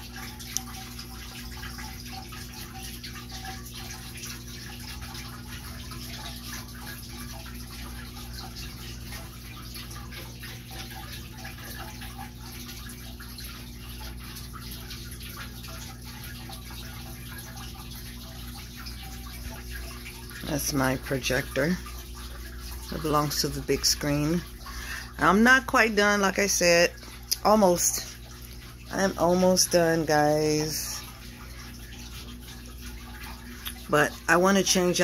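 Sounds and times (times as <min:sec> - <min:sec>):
indoor waterfall trickling: 0:00.0 - 0:35.0
water drips: 0:00.0 - 0:35.0.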